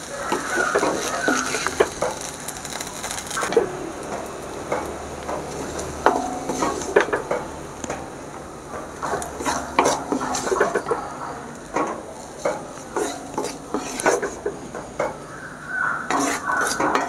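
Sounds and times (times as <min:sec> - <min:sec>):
metal spatula scraping a pan: 0:00.0 - 0:08.1, 0:09.0 - 0:11.2, 0:11.8 - 0:15.2, 0:16.1 - 0:17.0
faint sizzle: 0:00.0 - 0:17.0.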